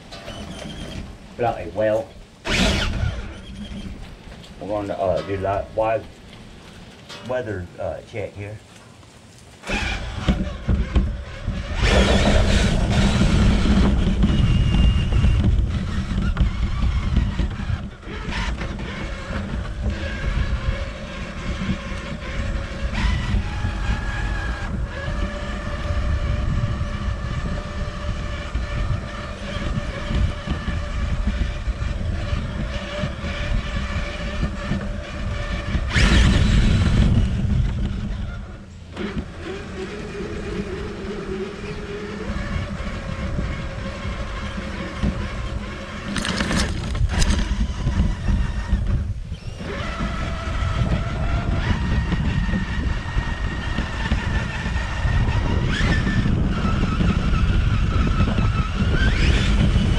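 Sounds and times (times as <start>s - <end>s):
electric motor and gearbox whine: 0.0s - 59.9s
tires rumbling on bumpy ground: 0.0s - 59.9s.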